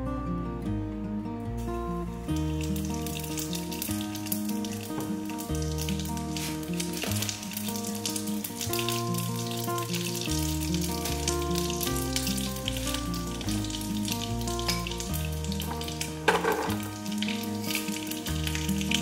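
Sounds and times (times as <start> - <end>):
background music: 0.0 - 19.0
seeds sizzling in hot oil: 1.6 - 19.0.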